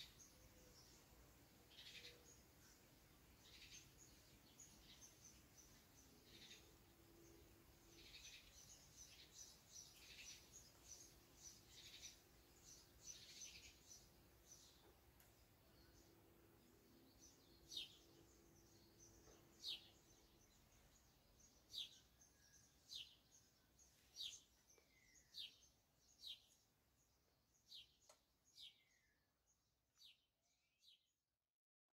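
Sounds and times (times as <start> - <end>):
faint bird chirps: 0.0 - 31.2.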